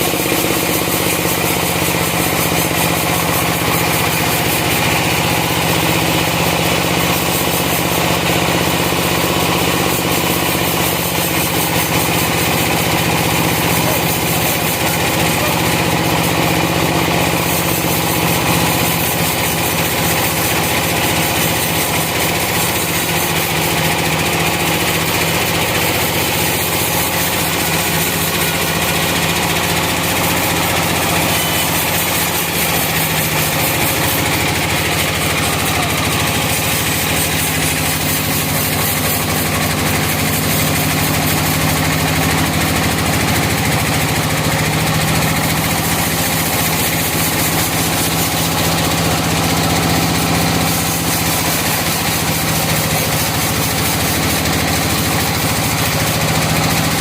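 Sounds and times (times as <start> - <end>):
dense mechanical noise: 0.0 - 57.0
sawmill engine running: 0.0 - 57.0.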